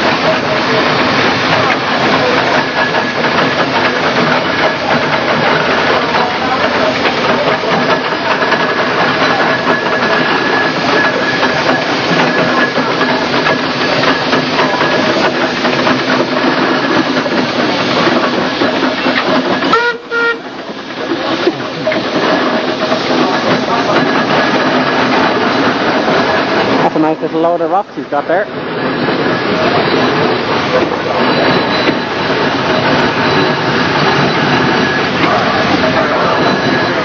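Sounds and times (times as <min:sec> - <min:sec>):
steam hissing: 0:00.0 - 0:37.0.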